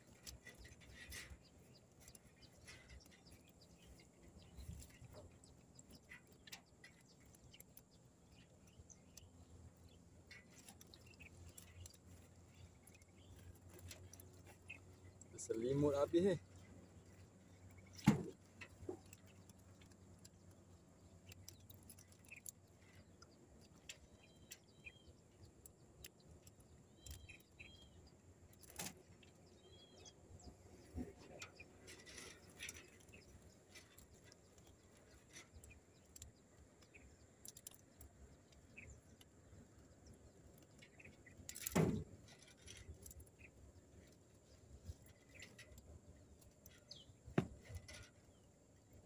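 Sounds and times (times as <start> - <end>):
bird chirping faintly: 0.0 - 49.0
fishing net clicks and rustles: 0.0 - 49.0.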